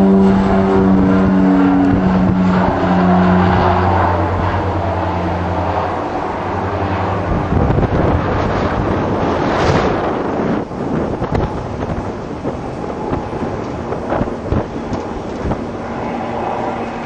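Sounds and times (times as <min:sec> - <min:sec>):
turboprop aircraft droning: 0:00.0 - 0:17.0.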